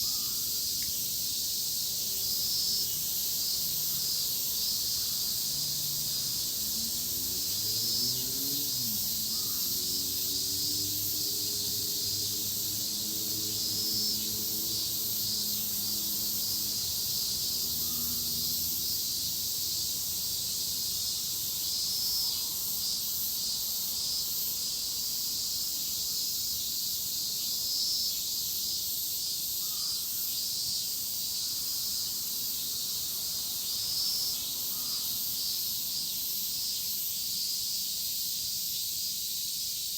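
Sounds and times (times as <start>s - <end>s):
cicadas shrilling: 0.0s - 39.9s.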